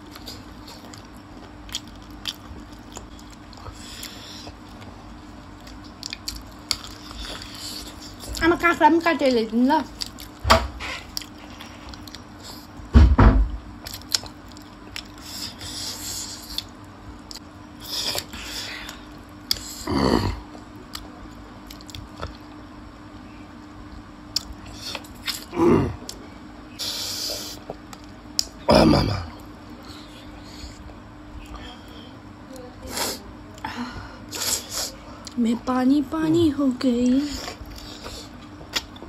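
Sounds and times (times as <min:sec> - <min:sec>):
chewing and crunching: 0:00.0 - 0:12.8, 0:13.8 - 0:22.7, 0:23.3 - 0:32.0, 0:37.0 - 0:39.0
faint steady hum: 0:00.0 - 0:39.0.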